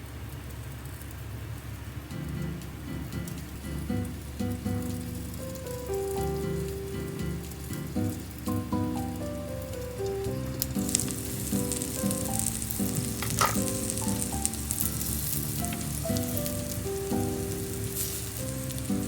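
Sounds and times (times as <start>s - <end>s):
background music: 2.2s - 19.0s
food sizzling in a frying pan: 3.3s - 19.0s.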